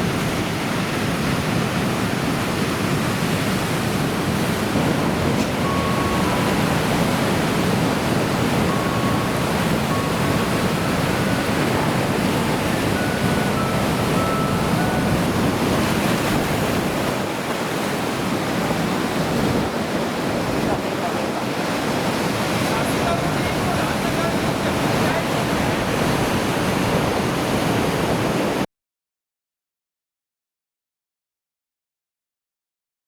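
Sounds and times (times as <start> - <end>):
waves breaking: 0.0 - 28.6
wind on microphone: 0.0 - 28.6.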